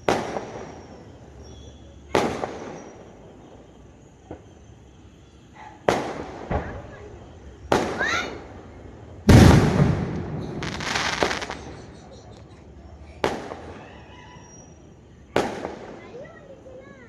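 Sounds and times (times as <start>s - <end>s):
fireworks bangs: 0.0s - 1.1s, 1.9s - 4.7s, 5.8s - 12.3s, 13.1s - 16.6s
fireworks crackling: 0.0s - 5.2s, 5.8s - 12.5s, 13.1s - 13.8s, 14.9s - 17.0s.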